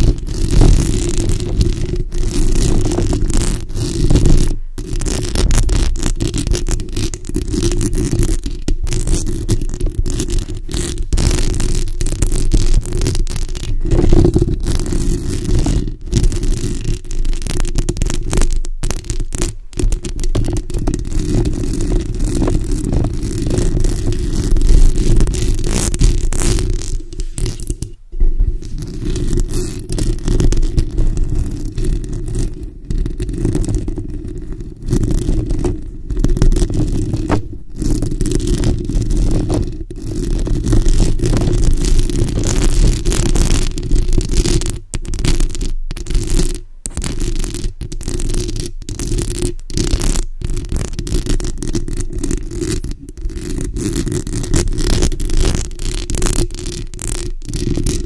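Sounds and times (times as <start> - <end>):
nails scratching microphone grille: 0.0 - 58.0.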